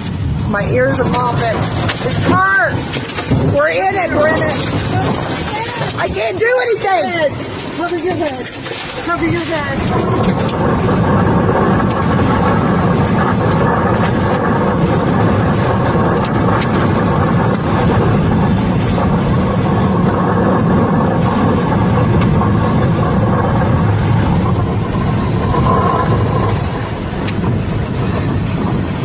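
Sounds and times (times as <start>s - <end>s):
wind buffeting a car: 0.0s - 29.0s.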